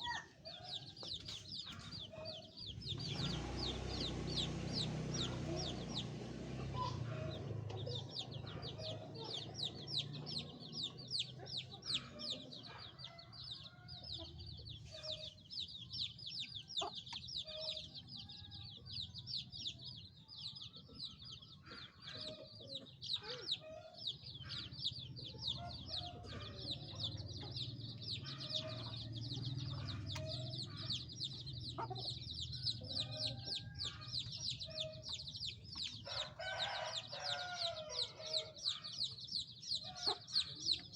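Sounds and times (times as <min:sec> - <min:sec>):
hen clucking: 0:00.0 - 0:18.0, 0:20.9 - 0:40.9
chicks peeping: 0:00.0 - 0:40.9.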